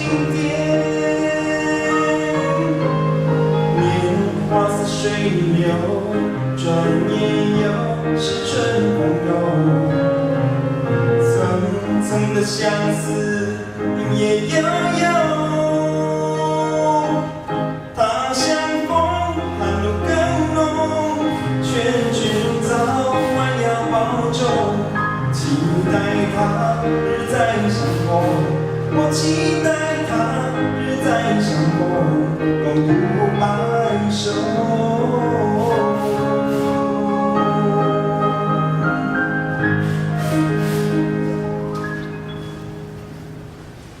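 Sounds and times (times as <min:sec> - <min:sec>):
ballad sung over instruments: 0:00.0 - 0:10.2, 0:11.2 - 0:40.0.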